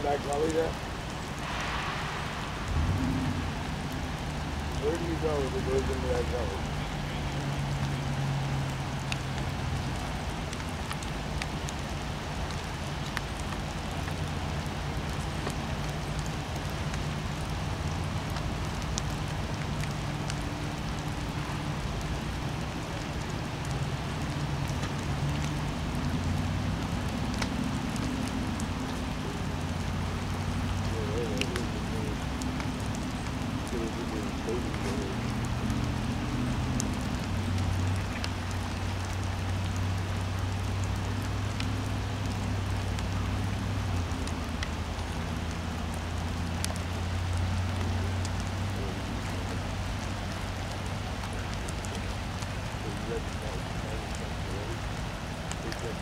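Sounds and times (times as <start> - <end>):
low engine hum: 0.0 - 56.0
rain on branches and ground: 0.0 - 56.0
river water rushing: 0.0 - 56.0
water dripping: 0.0 - 56.0.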